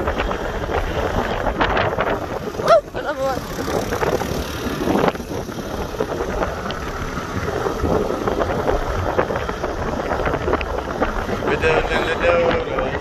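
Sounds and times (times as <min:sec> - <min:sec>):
motor scooter engine: 0:00.0 - 0:13.0
wind buffeting microphone: 0:00.0 - 0:13.0.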